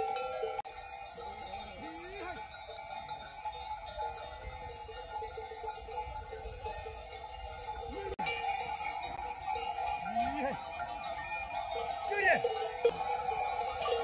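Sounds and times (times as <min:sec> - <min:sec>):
livestock bells jingling: 0:00.0 - 0:14.0.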